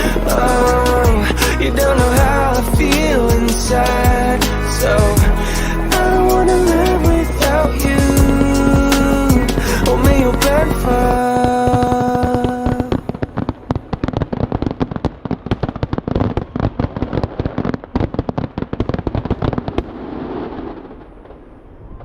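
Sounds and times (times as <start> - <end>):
fireworks cracking bangs: 0.0 - 22.0.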